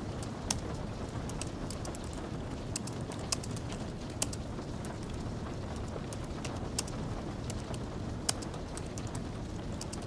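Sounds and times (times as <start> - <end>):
crackling fire: 0.0 - 10.0
light rain hiss: 0.0 - 10.0.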